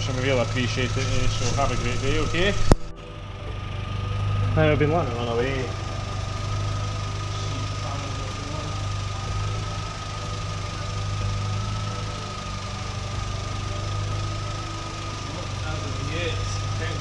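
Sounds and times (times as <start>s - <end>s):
car engine idling: 0.0s - 17.0s
steady high whine: 0.0s - 17.0s.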